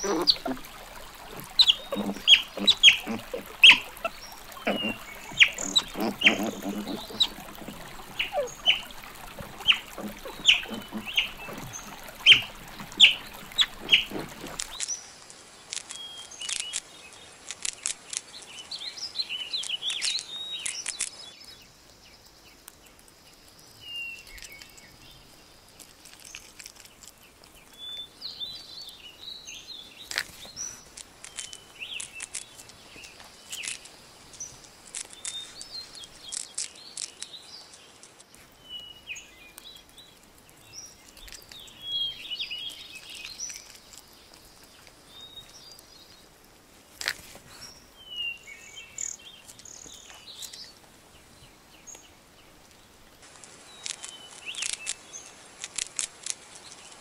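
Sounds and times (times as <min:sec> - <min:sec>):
small birds chirping: 0:00.0 - 0:15.1, 0:15.7 - 0:57.0.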